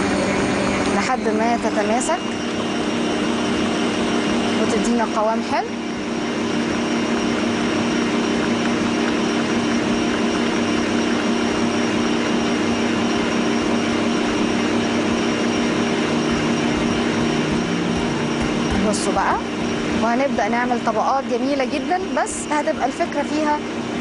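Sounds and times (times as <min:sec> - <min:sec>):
stand mixer whisking: 0:00.0 - 0:24.0.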